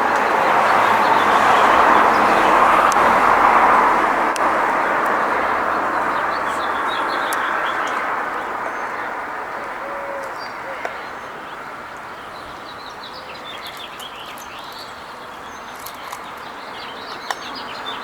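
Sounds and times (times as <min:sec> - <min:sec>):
road traffic tyre noise: 0:00.0 - 0:18.0
small birds chirping: 0:00.0 - 0:18.0.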